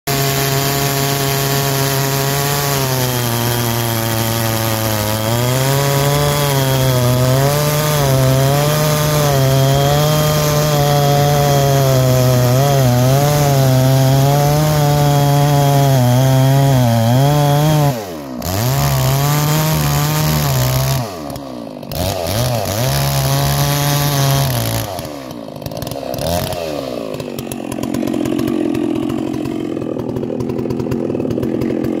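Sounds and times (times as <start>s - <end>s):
chainsaw cutting a log: 0.1s - 32.0s.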